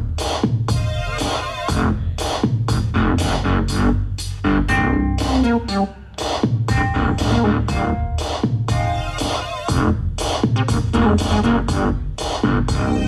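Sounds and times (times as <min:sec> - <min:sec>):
electronic dance music: 0:00.2 - 0:02.6, 0:04.6 - 0:13.0.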